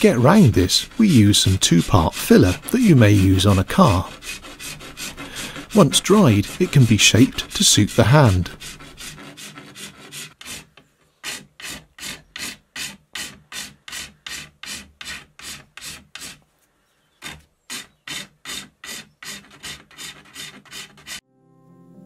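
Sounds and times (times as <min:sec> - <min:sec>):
metal file rasping: 0:00.0 - 0:16.4, 0:17.1 - 0:21.2.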